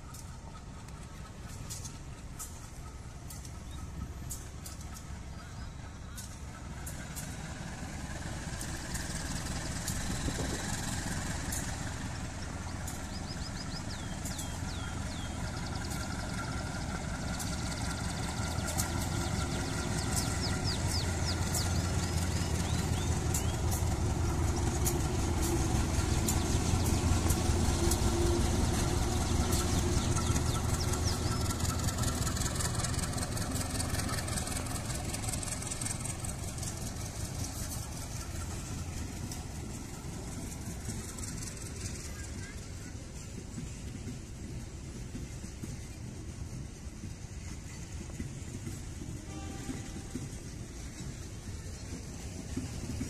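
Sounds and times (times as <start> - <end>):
diesel locomotive engine humming: 0.0 - 53.0.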